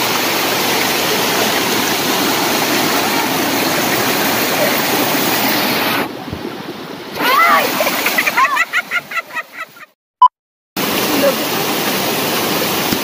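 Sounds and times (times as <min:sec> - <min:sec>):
mountain stream rushing over rocks: 0:00.0 - 0:08.7, 0:10.8 - 0:13.0.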